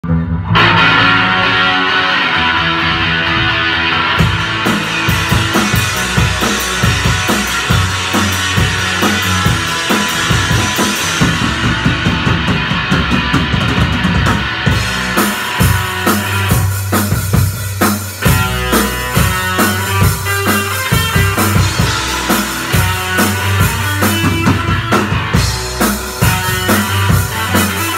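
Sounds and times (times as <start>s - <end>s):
bass guitar: 0.0s - 27.9s
drum kit: 0.0s - 27.9s
electric guitar: 0.0s - 27.9s.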